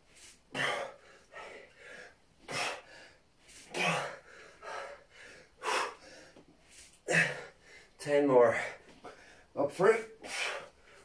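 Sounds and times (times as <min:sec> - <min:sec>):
man breathing hard: 0:00.2 - 0:09.6, 0:10.2 - 0:11.0.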